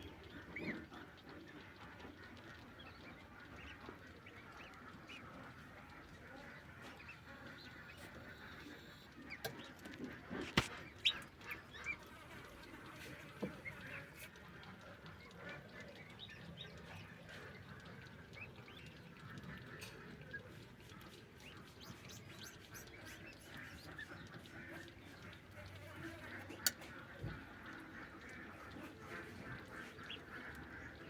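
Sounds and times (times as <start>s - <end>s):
ducks calling: 0.0s - 31.0s.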